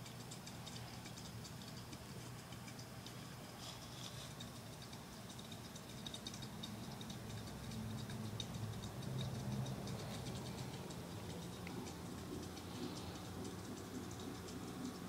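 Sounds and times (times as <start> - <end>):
light ticking and clicking: 0.0 - 15.0
low steady hum: 0.0 - 15.0.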